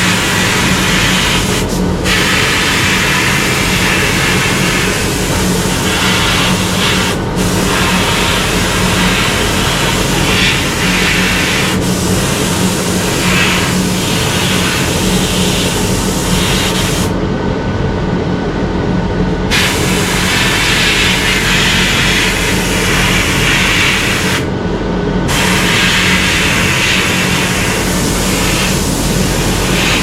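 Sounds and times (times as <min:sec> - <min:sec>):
loud steady hiss: 0:00.0 - 0:17.2, 0:19.5 - 0:24.5, 0:25.3 - 0:30.0
low machine hum: 0:00.0 - 0:30.0.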